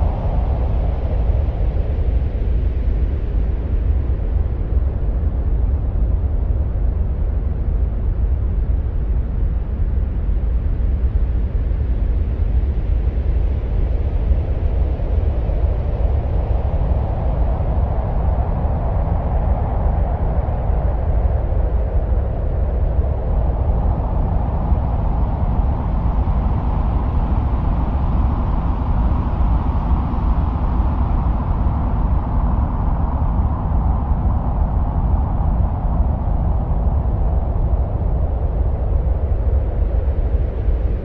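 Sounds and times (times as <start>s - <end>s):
deep wind-like roar: 0.0s - 41.0s.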